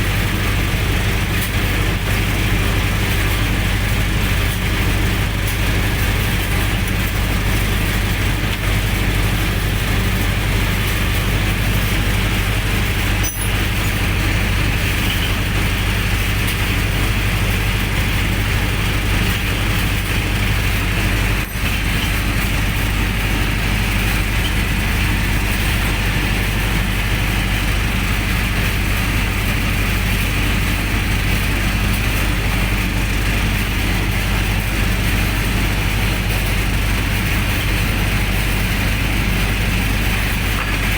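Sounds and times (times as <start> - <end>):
generator engine humming: 0.0 - 40.9.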